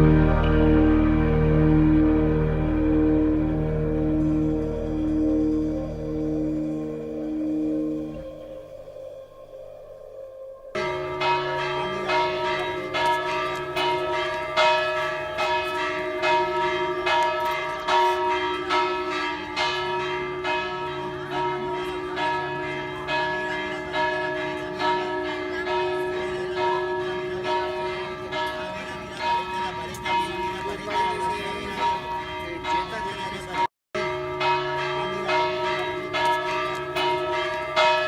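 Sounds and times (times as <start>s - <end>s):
church bells pealing: 0.0s - 38.0s.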